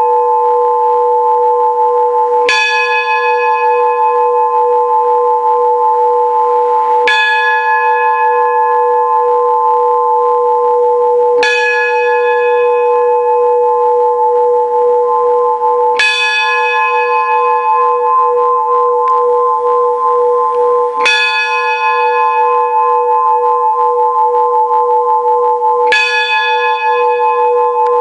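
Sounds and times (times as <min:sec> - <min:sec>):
church bell ringing: 0:00.0 - 0:28.0.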